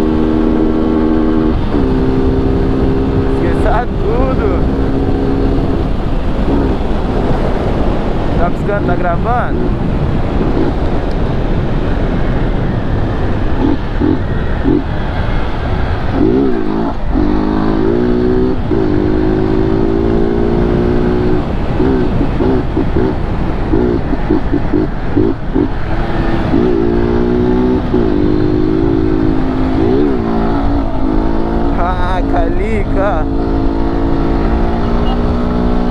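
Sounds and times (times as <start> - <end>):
motorcycle engine revving: 0.0 - 35.9
wind and road noise: 0.0 - 35.9.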